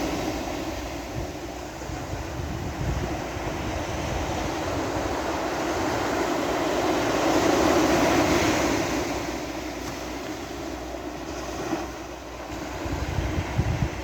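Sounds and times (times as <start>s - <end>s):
sea waves washing onto beach: 0.0s - 14.0s.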